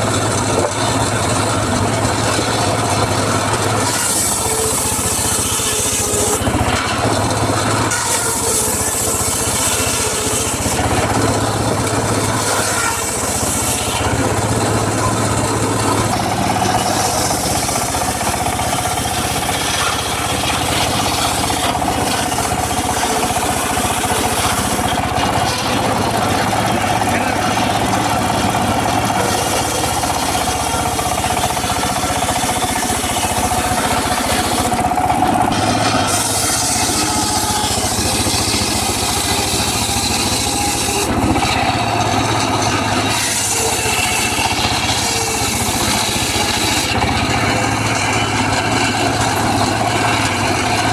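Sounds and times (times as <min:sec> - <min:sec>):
circular saw cutting wood: 0:00.0 - 0:50.9.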